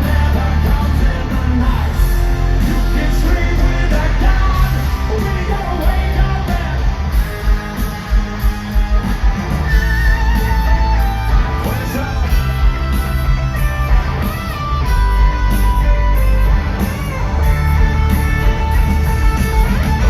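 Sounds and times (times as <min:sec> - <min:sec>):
hard rock band playing live: 0:00.0 - 0:20.0
wavering lead guitar: 0:00.0 - 0:20.0.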